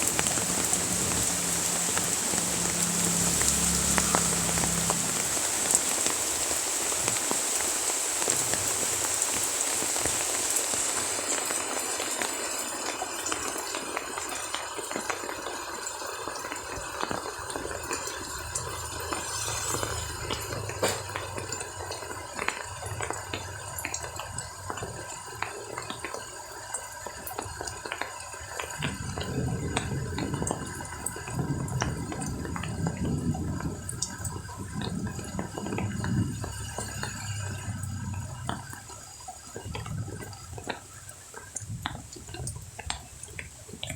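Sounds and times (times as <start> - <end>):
rain falling: 0.0 - 43.9
running water: 0.0 - 43.9
water dripping: 0.0 - 43.9.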